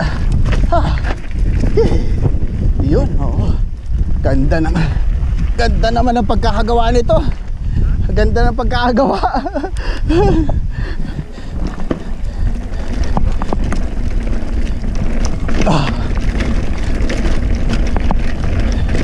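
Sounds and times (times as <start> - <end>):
bike rumbling and rattling: 0.0 - 19.0
wind buffeting microphone: 0.0 - 19.0.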